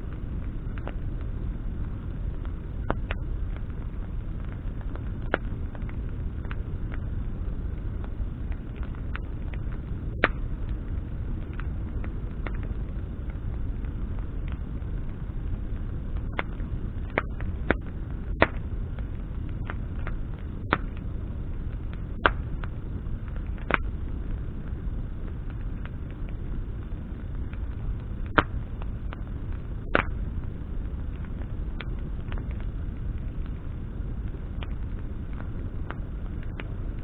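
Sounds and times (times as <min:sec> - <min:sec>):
campfire flame rumble: 0:00.0 - 0:37.0
fire popping and crackling: 0:00.0 - 0:37.0.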